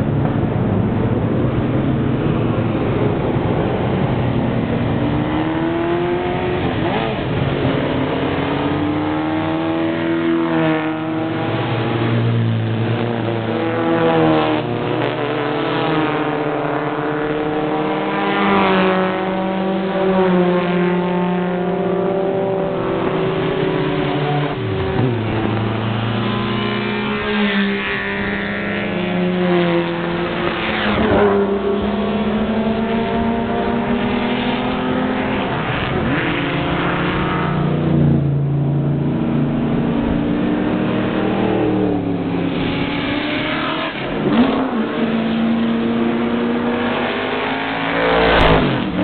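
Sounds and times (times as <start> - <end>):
race car engines accelerating: 0.0 - 49.0.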